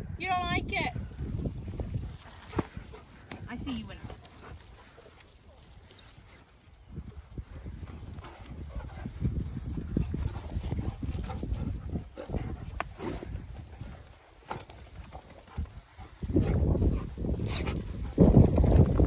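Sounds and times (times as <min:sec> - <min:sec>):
dogs scuffling on grass: 0:01.0 - 0:19.0.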